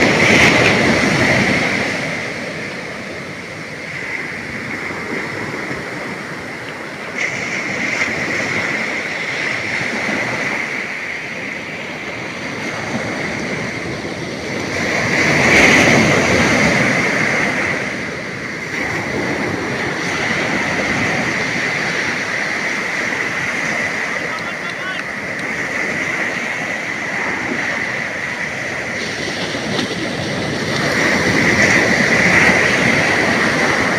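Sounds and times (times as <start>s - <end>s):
sea surf washing onto beach: 0.0s - 33.9s.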